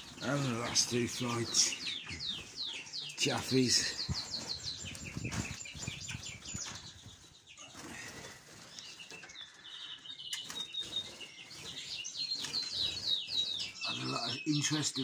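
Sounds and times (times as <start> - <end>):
high-pitched bird chirping: 0.0 - 7.6, 8.8 - 15.0.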